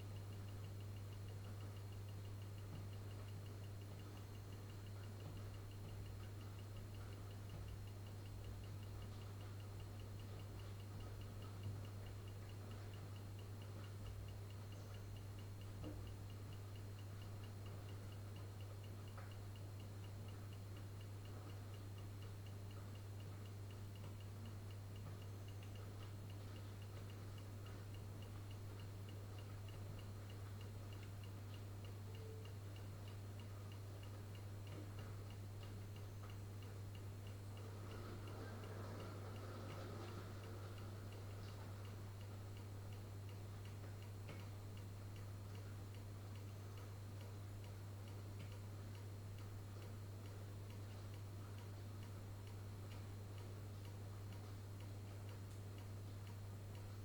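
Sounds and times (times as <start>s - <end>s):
regular ticking: 0.0s - 56.9s.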